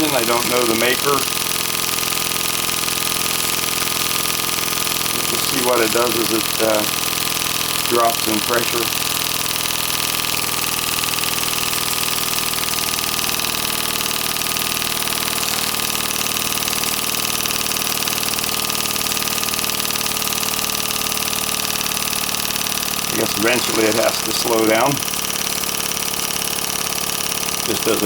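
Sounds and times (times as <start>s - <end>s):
model steam engine running: 0.0s - 28.0s.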